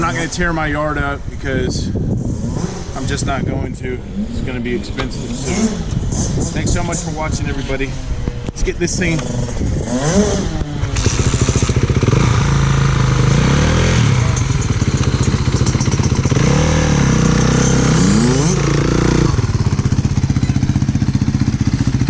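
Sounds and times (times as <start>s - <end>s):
dirt bike engine revving and idling: 2.0s - 22.0s.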